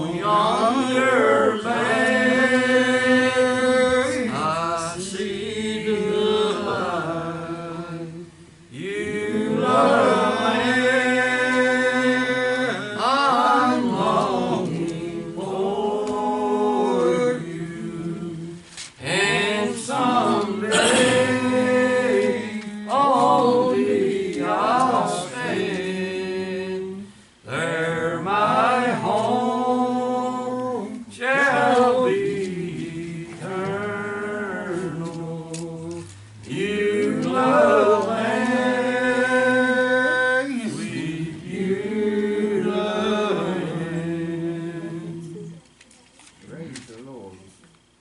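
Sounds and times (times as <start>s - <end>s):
congregation singing a hymn: 0.0s - 45.7s.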